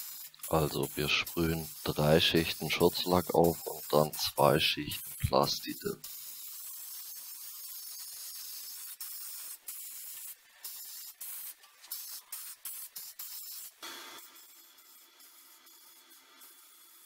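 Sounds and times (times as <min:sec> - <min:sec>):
aerosol spray can hissing: 0:00.0 - 0:15.8.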